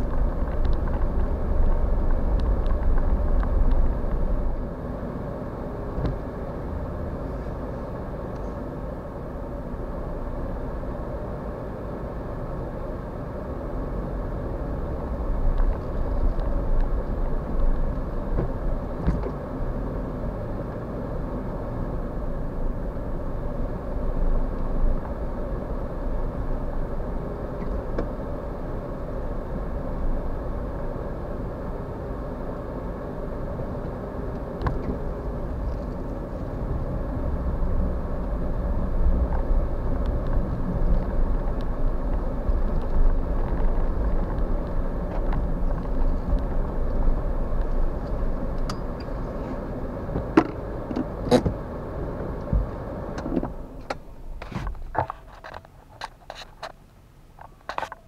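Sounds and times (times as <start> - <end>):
van engine and tyres on snow: 0.0 - 58.0.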